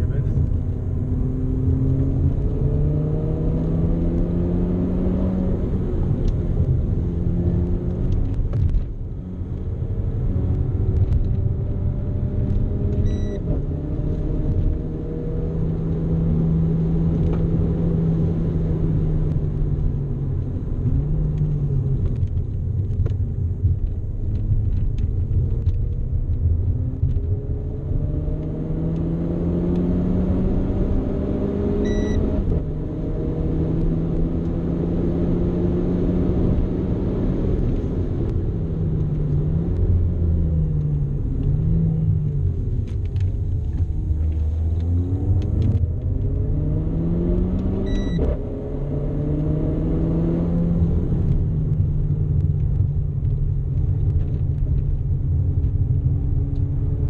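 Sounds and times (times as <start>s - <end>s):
car engine accelerating: 0.0s - 57.0s
road rumble: 0.0s - 57.0s.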